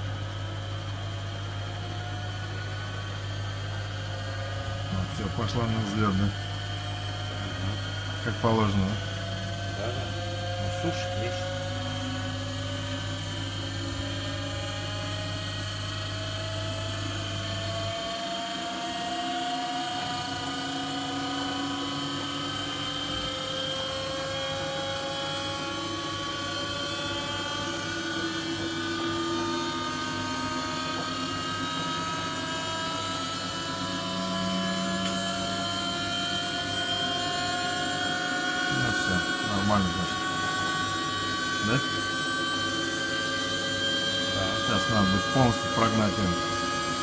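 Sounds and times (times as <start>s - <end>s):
washing machine spinning: 0.0s - 47.0s.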